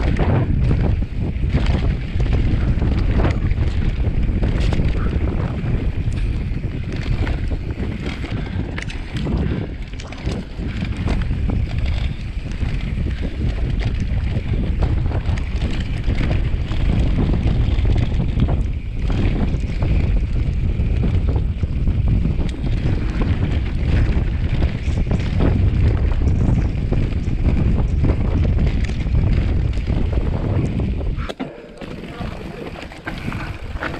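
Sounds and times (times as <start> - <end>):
bike knocks and rattles: 0.0 - 33.9
wind buffeting microphone: 0.0 - 33.9.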